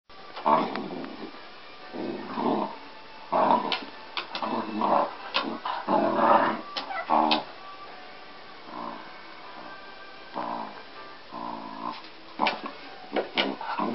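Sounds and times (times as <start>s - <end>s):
dog growling: 0.4s - 7.5s, 8.6s - 13.9s.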